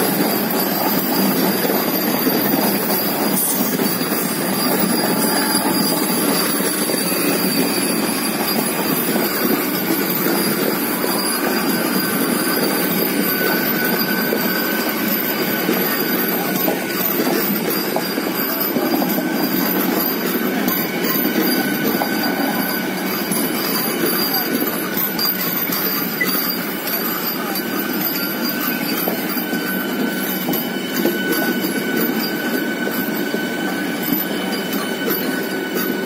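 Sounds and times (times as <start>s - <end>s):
high wheel squeal: 0.0s - 36.0s
train wheels rumbling on rail: 0.0s - 36.0s.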